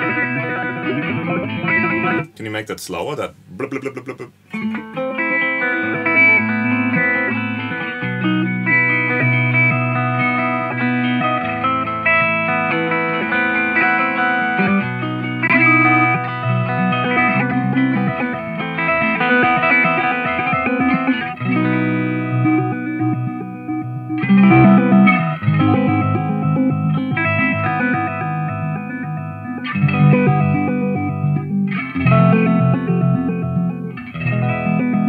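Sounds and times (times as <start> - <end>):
electric guitar with delay: 0.0 - 2.3, 3.4 - 35.0.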